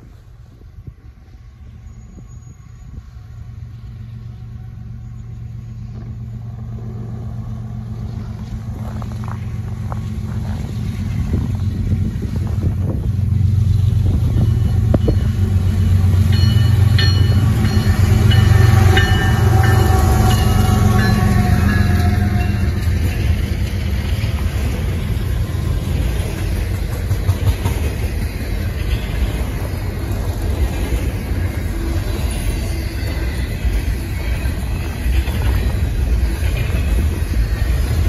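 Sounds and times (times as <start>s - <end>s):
locomotive engine drone: 0.0s - 38.0s.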